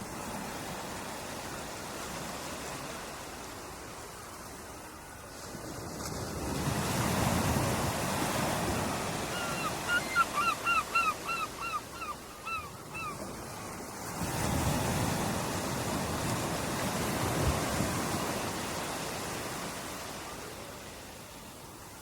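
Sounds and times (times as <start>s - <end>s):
ocean waves on a beach: 0.0s - 22.0s.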